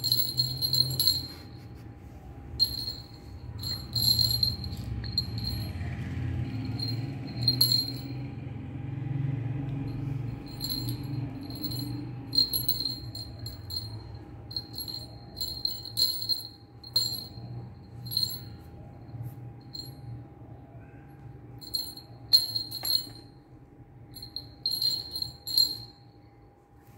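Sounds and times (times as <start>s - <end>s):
small bell jingling: 0.0s - 1.8s, 2.6s - 8.5s, 9.8s - 20.3s, 21.6s - 23.4s, 24.0s - 26.2s
low hum: 0.0s - 26.5s.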